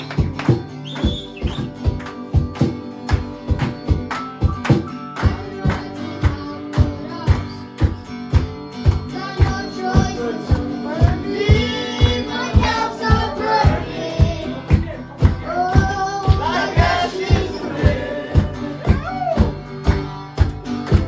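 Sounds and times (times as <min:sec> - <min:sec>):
strummed acoustic guitar: 0:00.0 - 0:21.0.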